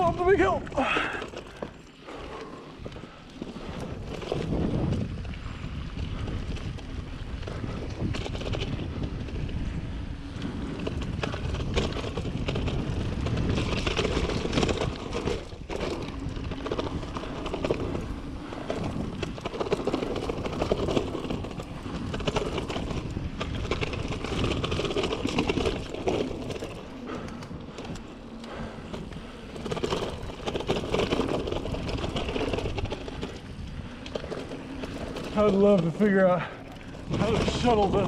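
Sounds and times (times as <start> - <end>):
bike rattling and knocking: 0.0 - 38.0
bike tyres on dirt: 0.0 - 38.0.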